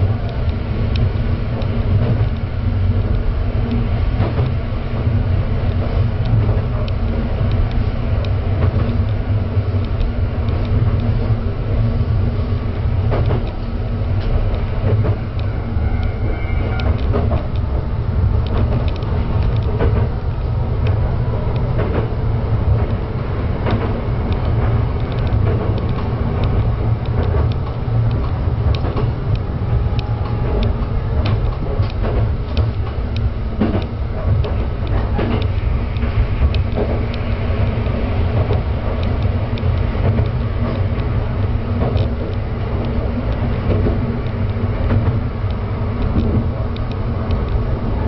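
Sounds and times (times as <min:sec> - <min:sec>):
railcar engine rumble: 0:00.0 - 0:48.0
clicks and creaks: 0:00.2 - 0:04.6, 0:12.6 - 0:48.0.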